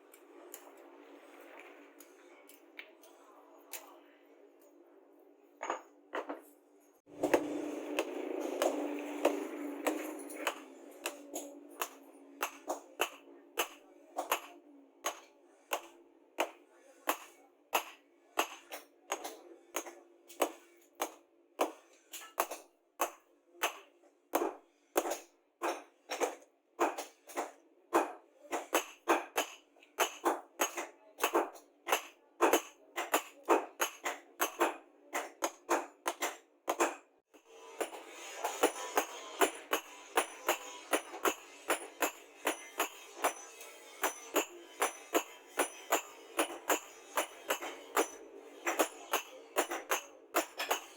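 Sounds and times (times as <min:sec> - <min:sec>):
hammer striking metal: 0:07.1 - 0:50.9.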